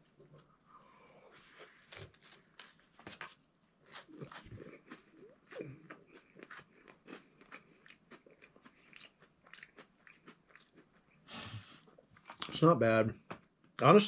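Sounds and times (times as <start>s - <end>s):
person chewing crisp cracker: 0.0s - 12.5s.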